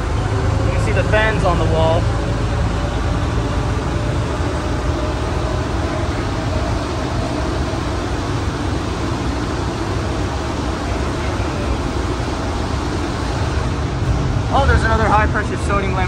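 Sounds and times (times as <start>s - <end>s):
train running in tunnel: 0.0s - 16.0s.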